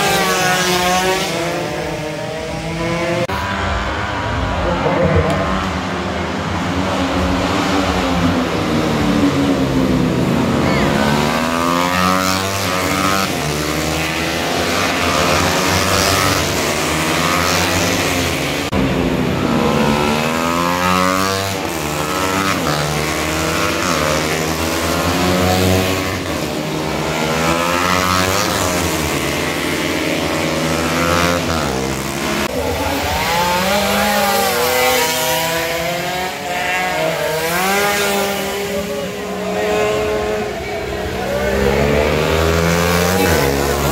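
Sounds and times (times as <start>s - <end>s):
racing motorcycles revving: 0.0s - 43.9s.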